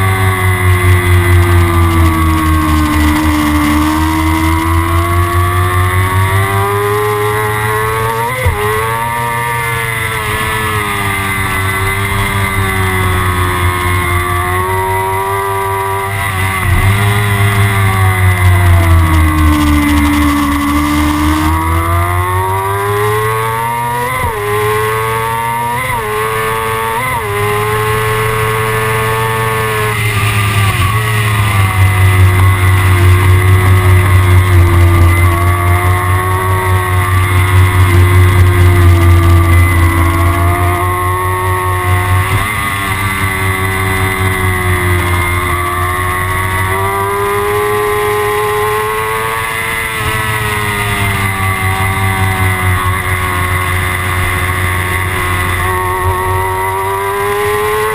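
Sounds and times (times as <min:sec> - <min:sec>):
motorcycle engine shifting gears: 0:00.0 - 0:57.9.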